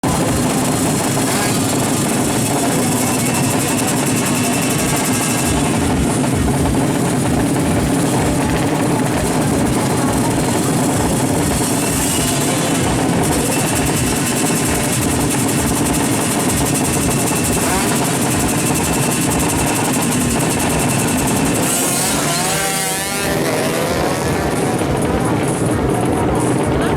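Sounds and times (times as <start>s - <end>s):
motorcycle engines running: 0.0s - 26.9s
voices: 0.0s - 26.9s.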